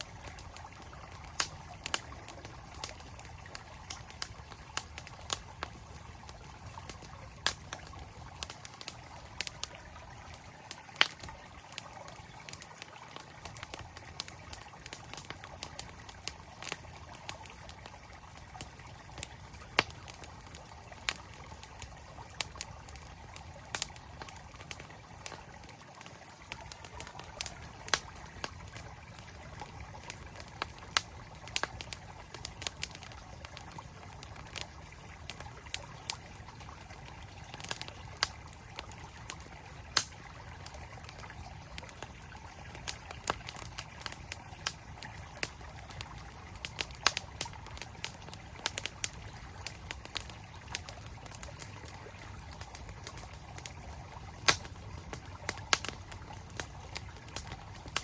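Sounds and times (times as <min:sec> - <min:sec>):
campfire crackling and popping: 0:00.0 - 0:58.0
flowing mountain stream: 0:00.0 - 0:58.0.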